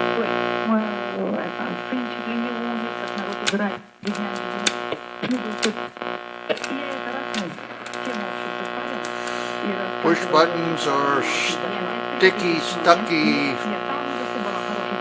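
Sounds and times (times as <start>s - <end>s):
faint radio voices: 0.0s - 15.0s
car radio hum: 0.4s - 15.0s.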